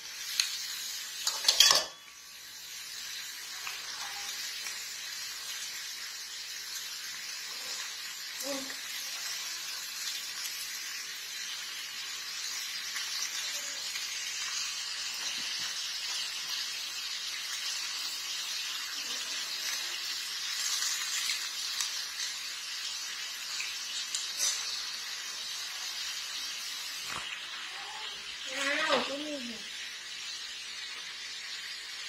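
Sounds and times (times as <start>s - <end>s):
beans sizzling in a wok: 0.0s - 32.0s.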